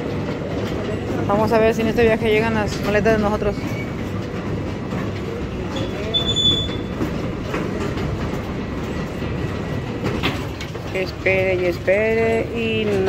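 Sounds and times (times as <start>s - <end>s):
baggage carousel rumbling clatter: 0.0s - 13.0s.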